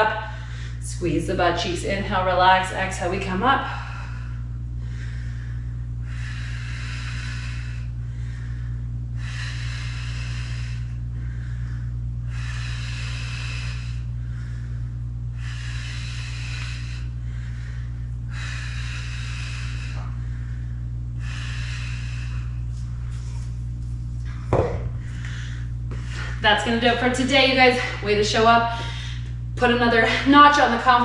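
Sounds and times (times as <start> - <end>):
woman breathing heavily: 0.0 - 2.3, 3.0 - 31.0
low electrical hum: 0.0 - 31.0.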